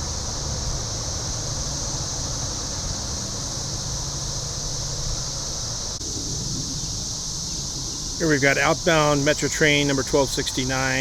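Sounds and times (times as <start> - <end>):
cicadas droning: 0.0 - 11.0
diesel train hum: 0.0 - 11.0.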